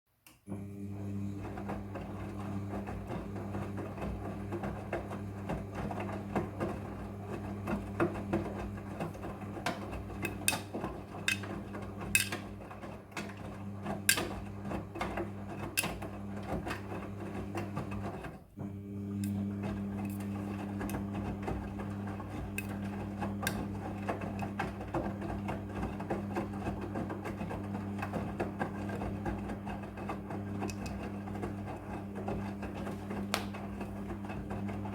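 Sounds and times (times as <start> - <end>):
washing machine motor humming: 0.4 - 34.9.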